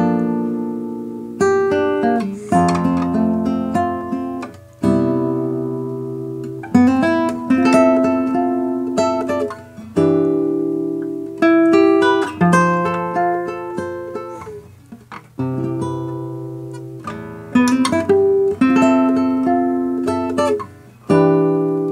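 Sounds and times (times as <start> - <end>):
classical guitar playing: 0.0 - 21.9.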